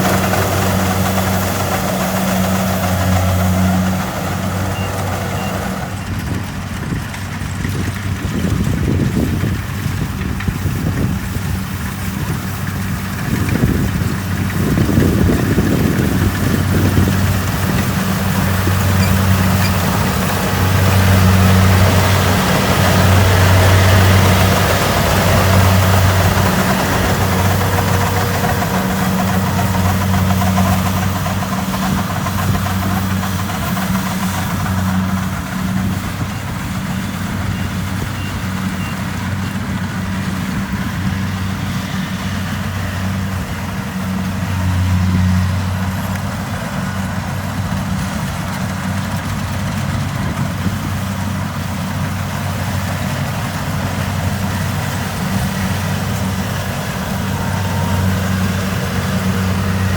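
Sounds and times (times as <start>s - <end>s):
combine harvester diesel engine: 0.0s - 59.9s.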